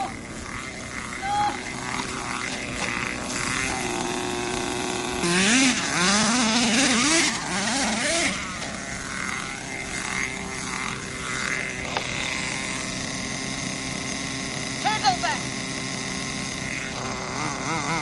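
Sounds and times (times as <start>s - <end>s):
small nitro engine idling and revving: 0.0s - 18.0s.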